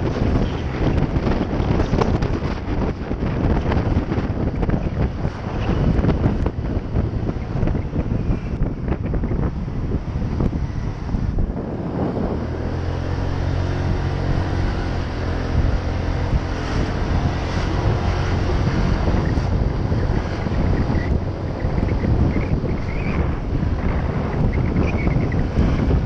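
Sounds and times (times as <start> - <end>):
scooter engine humming: 0.0 - 26.0
wind buffeting microphone: 0.0 - 26.0.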